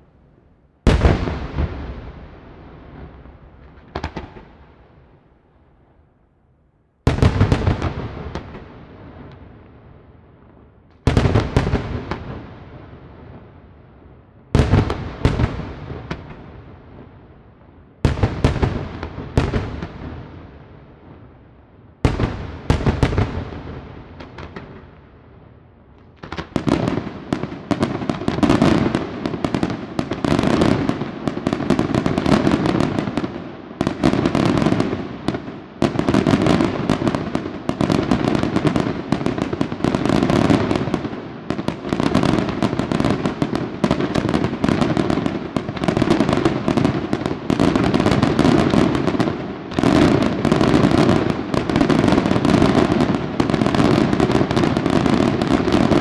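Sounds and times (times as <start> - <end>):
fireworks bangs and crackling: 0.8 - 6.0, 7.0 - 56.0.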